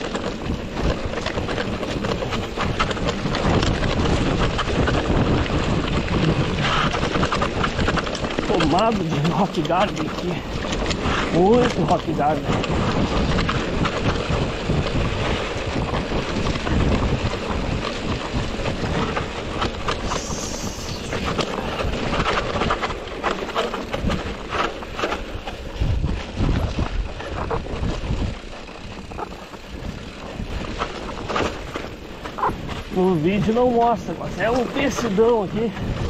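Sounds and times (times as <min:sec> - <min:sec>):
mountain bike rattling over rocks: 0:00.0 - 0:36.0
wheels knocking on stones: 0:00.0 - 0:36.0
wind buffeting microphone: 0:00.0 - 0:36.0.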